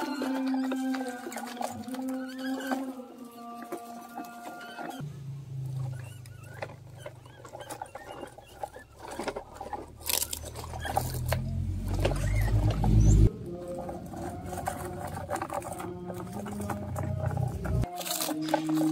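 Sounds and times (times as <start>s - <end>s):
toy trucks rolling over gravel: 0.0s - 5.0s, 5.6s - 18.9s.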